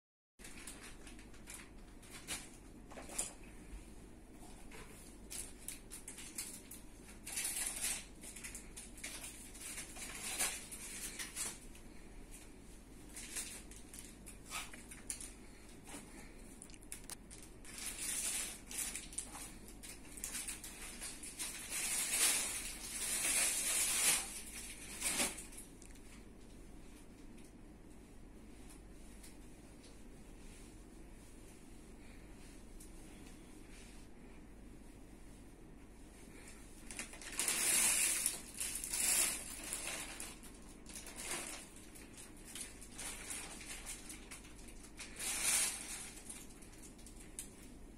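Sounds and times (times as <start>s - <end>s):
rustling and crackling: 0.4s - 47.8s
faint low hum: 0.4s - 47.9s.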